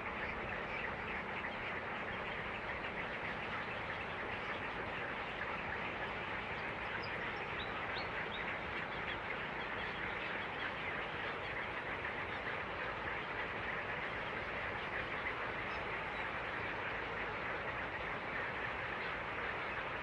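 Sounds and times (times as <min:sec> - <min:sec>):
chatter of many birds: 0:00.0 - 0:20.0.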